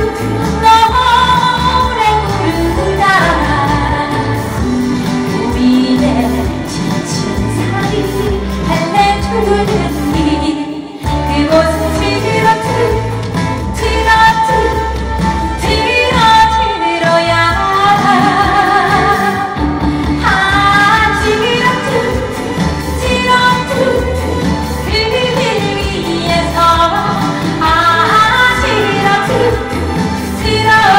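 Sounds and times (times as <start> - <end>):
woman singing into microphone: 0.0 - 30.9.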